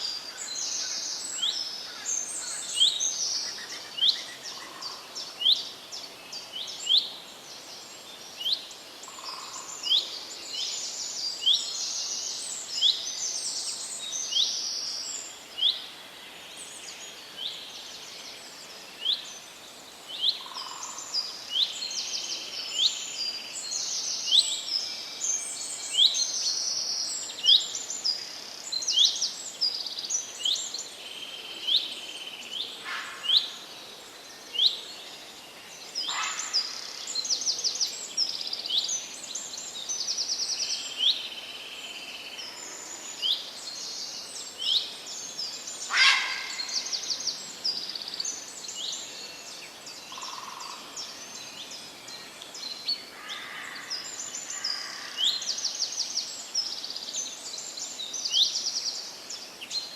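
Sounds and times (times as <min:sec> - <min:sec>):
songbirds chirping and trilling: 0:00.0 - 0:59.9
steady background hiss: 0:00.0 - 0:59.9.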